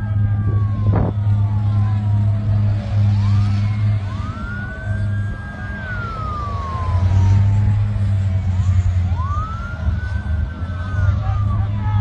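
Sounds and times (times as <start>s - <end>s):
emergency siren wailing: 0.0s - 12.0s
low engine drone: 0.0s - 12.0s.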